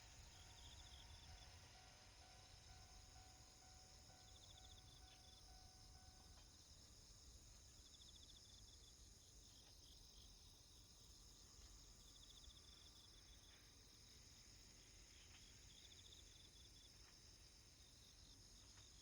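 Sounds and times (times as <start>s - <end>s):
faint steady tone: 0.0s - 19.0s.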